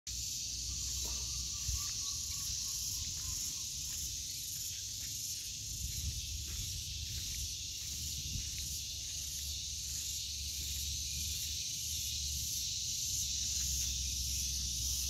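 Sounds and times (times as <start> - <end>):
insect chorus buzzing: 0.1 - 15.0.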